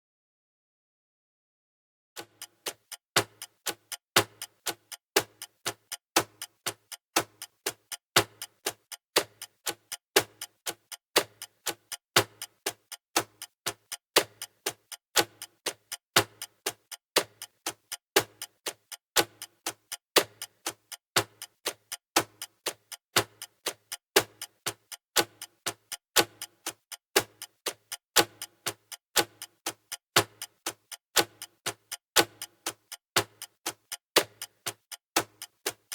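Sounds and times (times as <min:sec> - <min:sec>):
clock ticking: 0:02.2 - 0:35.9.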